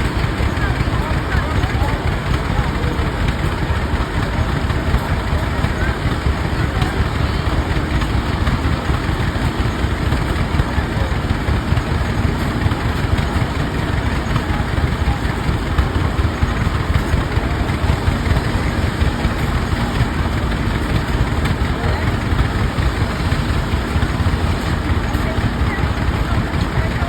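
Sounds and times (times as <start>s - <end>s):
slow two-cylinder tractor engines: 0.0s - 27.0s.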